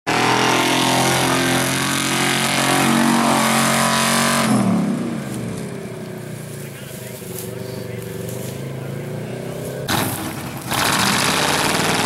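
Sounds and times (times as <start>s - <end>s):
truck engine revving hard: 0.1s - 5.8s, 8.0s - 12.0s.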